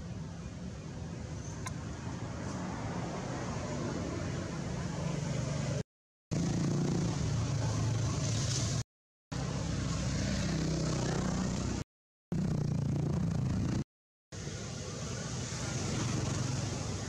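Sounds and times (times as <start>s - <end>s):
outdoor rumble and hiss: 0.0s - 11.8s, 14.4s - 17.0s.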